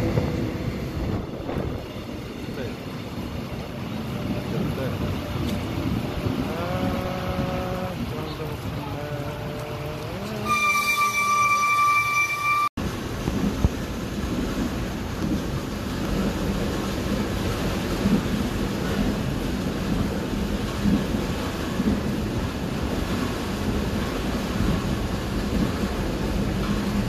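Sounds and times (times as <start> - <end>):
train rumbling inside carriage: 0.0 - 27.0.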